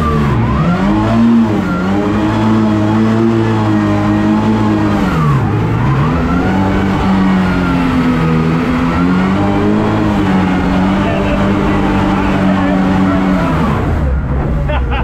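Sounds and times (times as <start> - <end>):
boat engine running at speed: 0.0 - 15.0.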